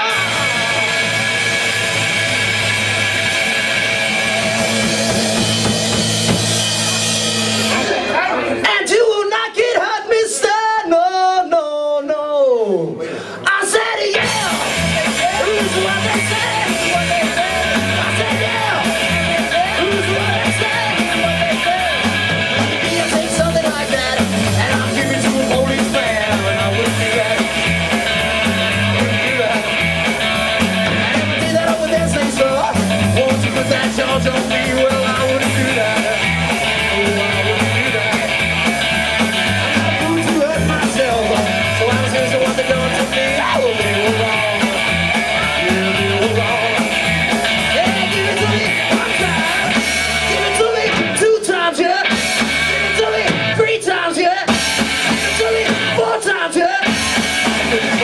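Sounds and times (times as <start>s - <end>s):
upright double bass: 0.0s - 8.0s, 14.2s - 51.2s, 54.5s - 56.0s
electric guitar: 0.0s - 8.7s, 14.1s - 58.0s
drum kit beat: 0.0s - 8.8s, 13.7s - 58.0s.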